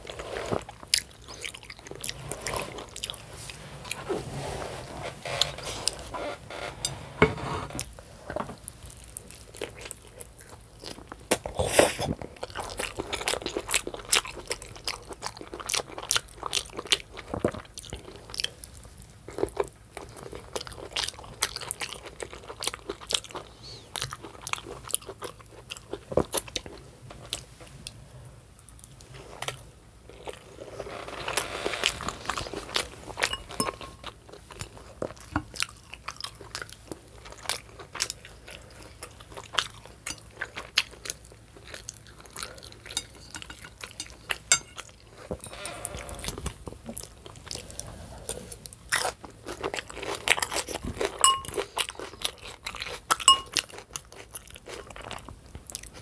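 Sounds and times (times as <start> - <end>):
person chewing and crunching: 0.0 - 3.3, 8.8 - 27.4, 28.6 - 56.0.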